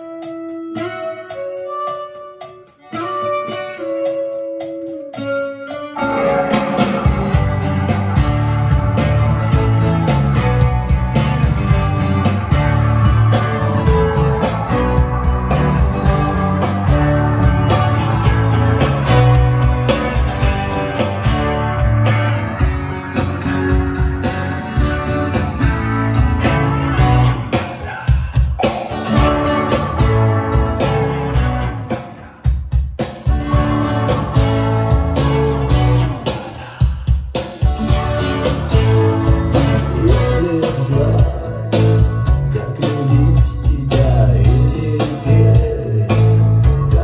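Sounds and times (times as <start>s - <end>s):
guitar music over loudspeakers: 0.0s - 47.0s.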